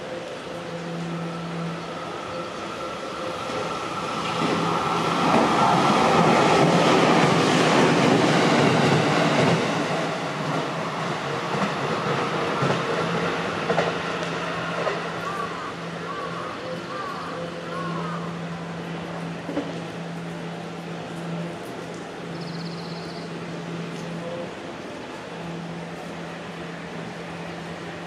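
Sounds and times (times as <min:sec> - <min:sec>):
train passing on wet track: 0:00.0 - 0:28.0.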